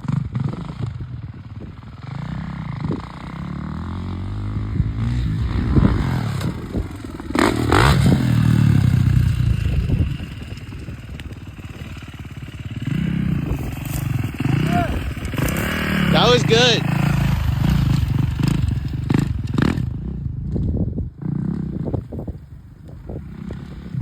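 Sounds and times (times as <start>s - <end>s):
dirt bike engine revving: 2.0s - 22.3s, 23.0s - 24.0s.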